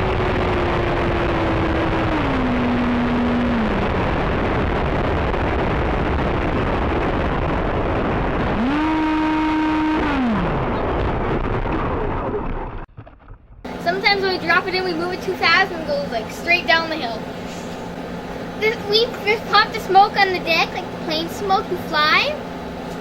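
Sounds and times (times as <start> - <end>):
electric ducted fan whining: 0.0 - 12.1, 13.7 - 23.0
steady rushing noise: 0.0 - 12.8, 13.7 - 23.0.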